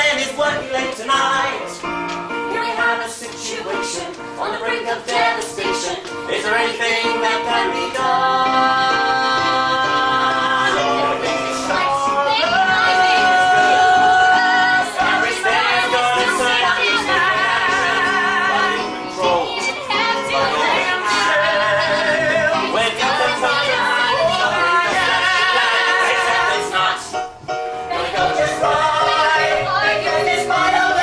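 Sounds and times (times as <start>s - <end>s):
instrumental accompaniment: 0.0s - 31.0s
musical theatre singing: 0.0s - 31.0s.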